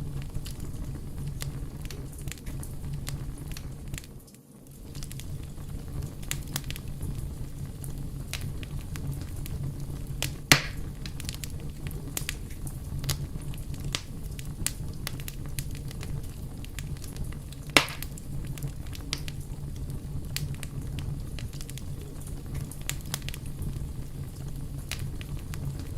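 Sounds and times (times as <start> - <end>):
fire crackling: 0.0 - 25.9.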